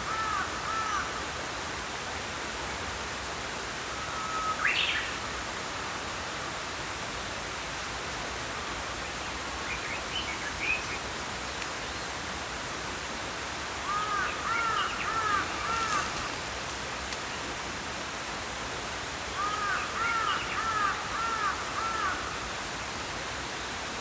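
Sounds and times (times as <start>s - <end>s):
brook flowing: 0.0s - 24.0s.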